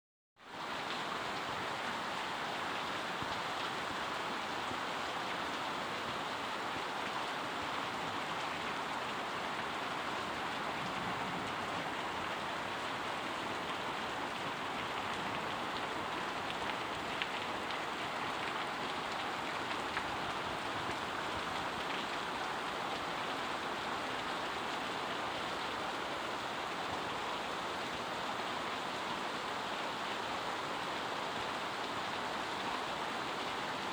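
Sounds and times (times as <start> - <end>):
heavy rain falling: 0.6 - 33.9.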